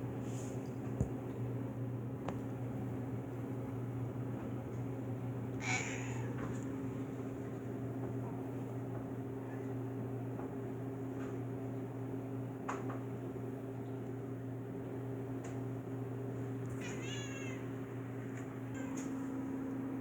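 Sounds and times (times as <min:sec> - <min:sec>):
electrical appliance hum: 0:00.0 - 0:20.0.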